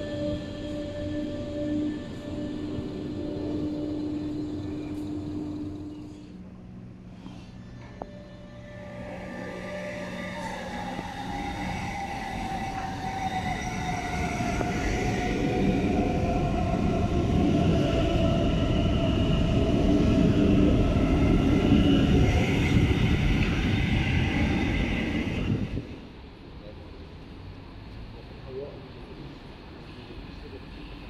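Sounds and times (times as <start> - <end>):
train wheels rumbling on rails: 0.0 - 26.6.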